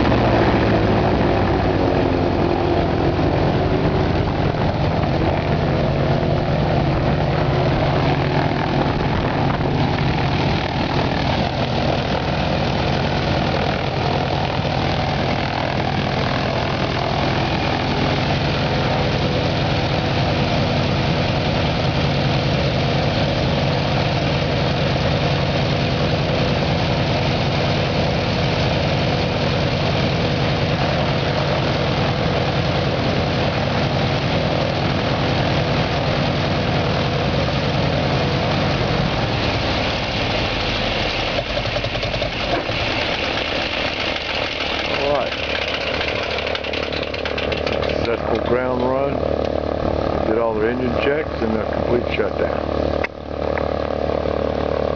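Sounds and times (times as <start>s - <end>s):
radial aircraft engine running: 0.0s - 54.9s.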